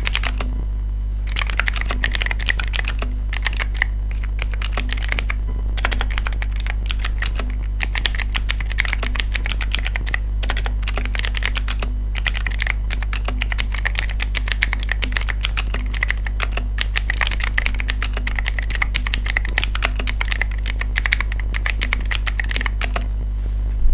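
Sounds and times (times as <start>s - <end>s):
mechanical keyboard typing: 0.0s - 0.6s, 1.2s - 23.1s
steady low hum: 0.0s - 23.9s.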